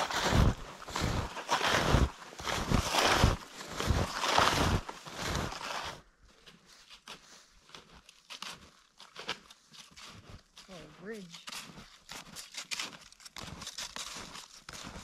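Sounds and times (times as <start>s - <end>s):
faint scattered crunching: 0.0s - 15.0s
snowshoe steps crunching in snow: 0.0s - 15.0s.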